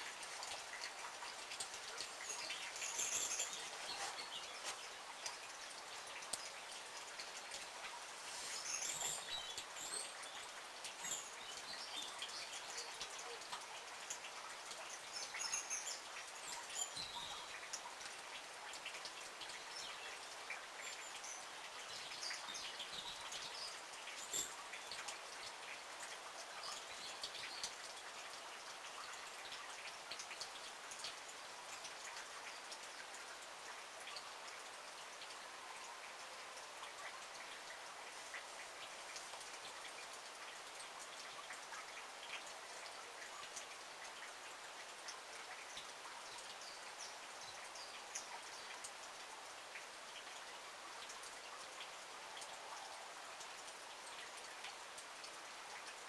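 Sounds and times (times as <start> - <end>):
light rain hissing: 0.0 - 56.0
ticks of raindrops: 0.0 - 56.0.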